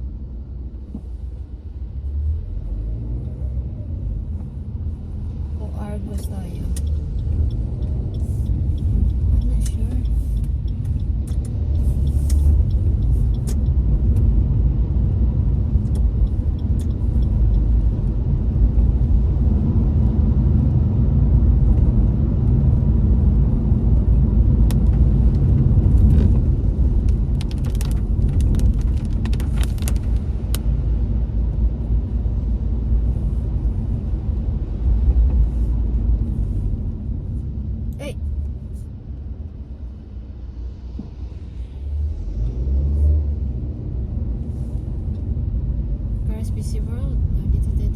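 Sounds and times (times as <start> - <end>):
car road noise rumble: 0.0 - 47.9.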